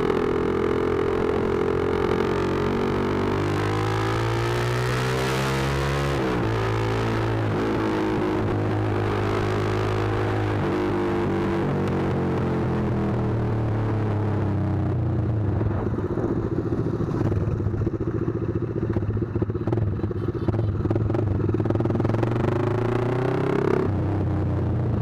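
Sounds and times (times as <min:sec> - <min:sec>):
motorcycle exhaust at low revs: 0:00.0 - 0:25.0.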